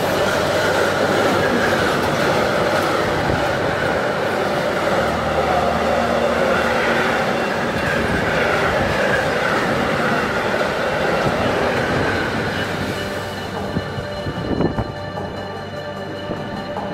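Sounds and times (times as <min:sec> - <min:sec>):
train wheels rumbling on rail: 0:00.0 - 0:16.9
wheels squealing: 0:00.0 - 0:16.9.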